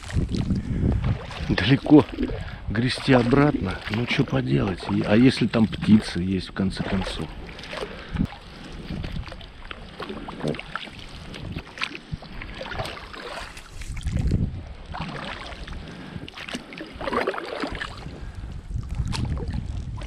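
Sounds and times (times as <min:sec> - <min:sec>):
paddle splashing through water: 0:00.0 - 0:20.0.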